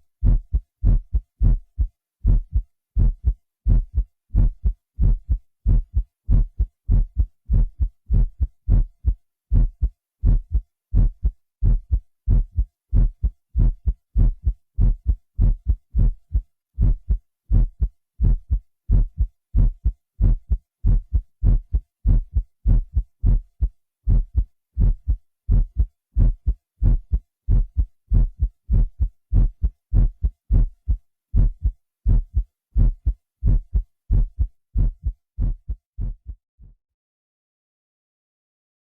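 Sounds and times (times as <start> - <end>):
heartbeat thuds: 0.2 - 36.8.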